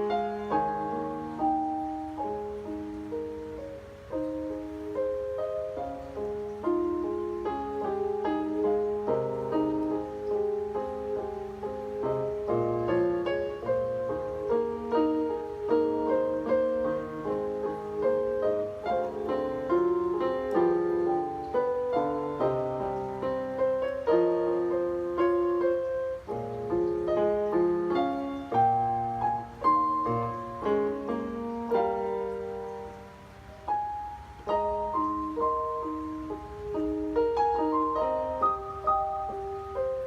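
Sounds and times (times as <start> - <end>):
piano melody over chords: 0.0 - 40.0.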